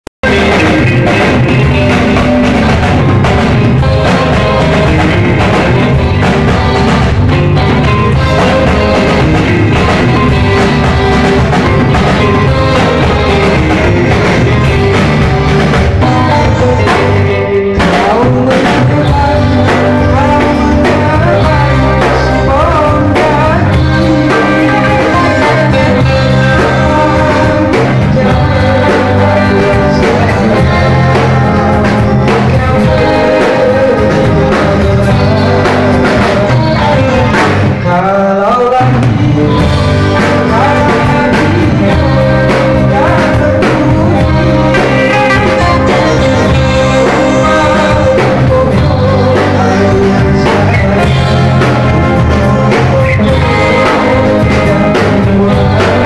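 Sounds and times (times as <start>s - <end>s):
band music with steady beat: 0.2s - 56.0s
man singing into microphone: 0.2s - 56.0s.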